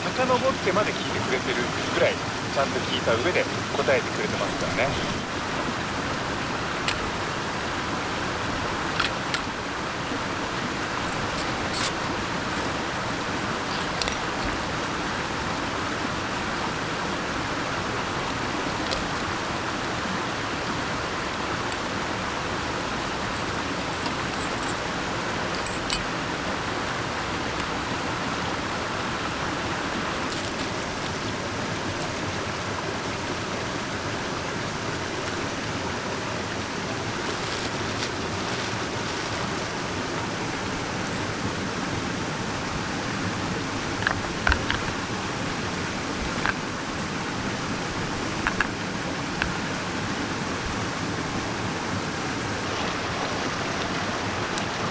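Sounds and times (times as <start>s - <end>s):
mountain stream rushing: 0.0s - 54.9s.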